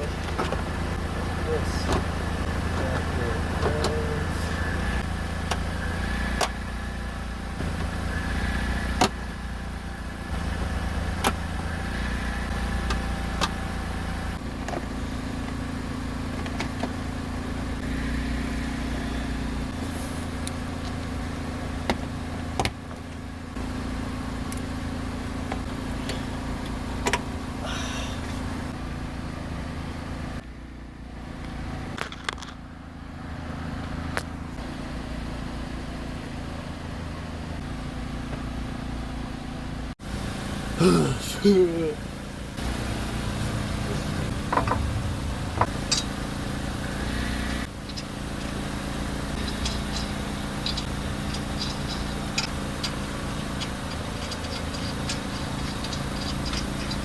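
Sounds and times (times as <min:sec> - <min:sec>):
engine idling hum: 0:00.0 - 0:57.0.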